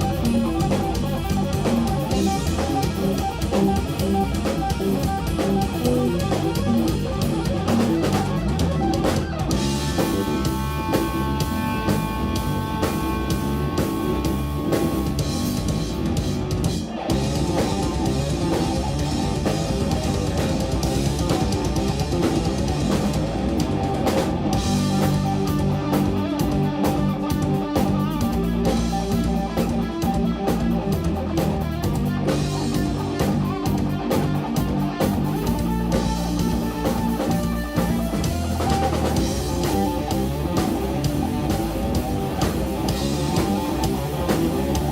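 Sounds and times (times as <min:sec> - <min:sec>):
bass guitar: 0:00.0 - 0:44.9
drum kit: 0:00.0 - 0:44.9
electric guitar: 0:00.0 - 0:44.9.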